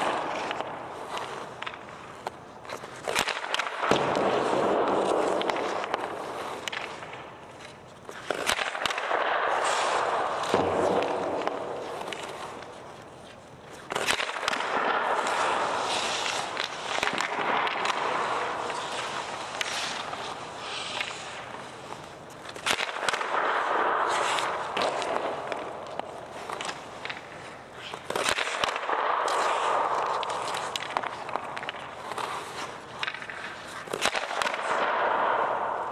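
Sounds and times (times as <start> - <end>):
hockey stick hitting puck: 0.0 - 35.9
skate blades scraping ice: 0.0 - 35.9.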